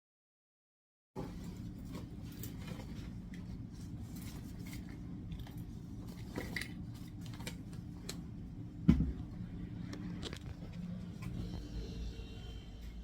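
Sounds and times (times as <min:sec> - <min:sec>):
low machine hum: 0:01.2 - 0:13.0.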